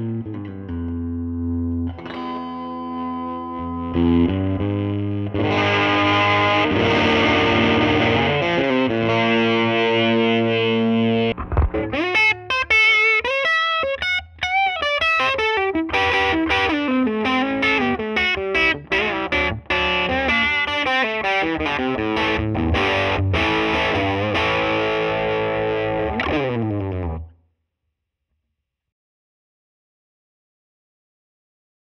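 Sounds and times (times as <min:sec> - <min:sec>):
overdriven electric guitar: 0:00.0 - 0:27.4.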